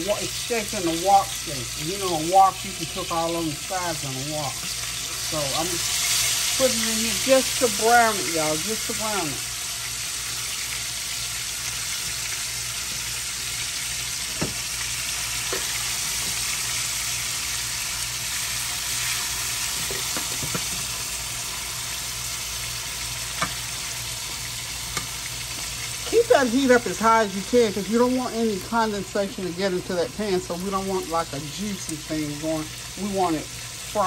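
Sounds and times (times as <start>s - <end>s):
chicken sizzling in oil: 0.0s - 34.0s.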